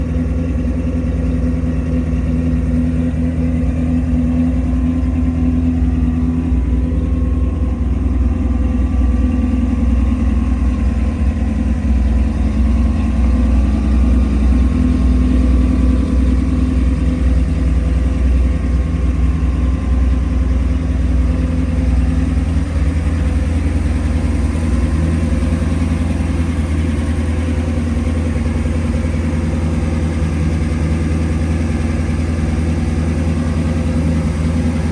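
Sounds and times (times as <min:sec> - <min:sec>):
pickup truck engine idling: 0:00.0 - 0:34.9.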